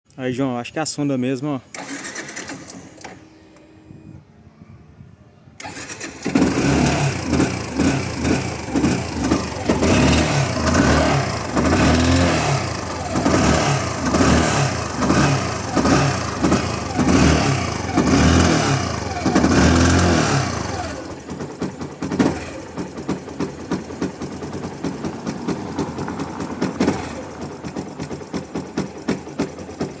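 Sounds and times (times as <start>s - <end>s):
motorcycle engine revving and idling: 5.7s - 30.0s.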